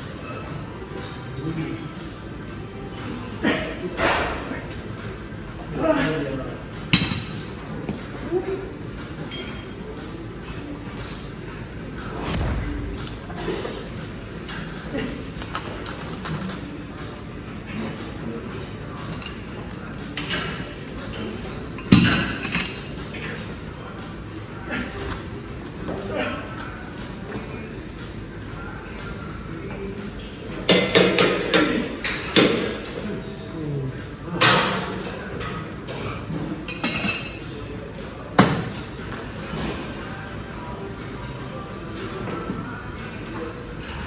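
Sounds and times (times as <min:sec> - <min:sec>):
gym background noise: 0:00.0 - 0:44.0.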